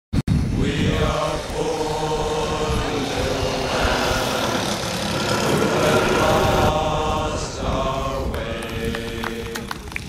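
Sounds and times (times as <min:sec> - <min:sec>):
wind rumble on microphone: 0:00.2 - 0:10.0
model airplane engine whine: 0:00.6 - 0:09.9.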